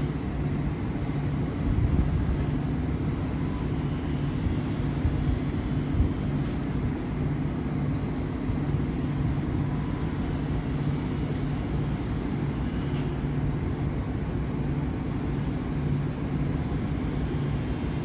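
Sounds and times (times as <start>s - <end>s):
diesel boat engine running: 0.0s - 18.0s.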